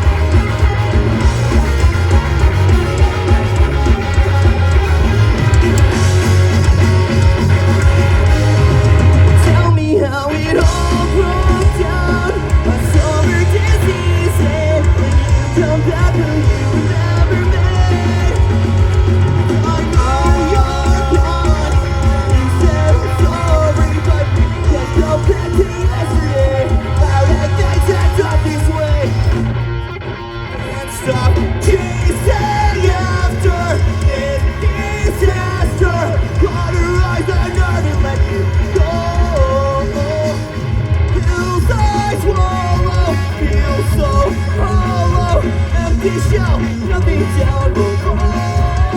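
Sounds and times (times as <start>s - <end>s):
person singing: 0.0s - 29.5s, 30.6s - 48.9s
bass guitar: 0.0s - 48.9s
drums: 0.0s - 48.9s
electric guitar: 0.0s - 48.9s.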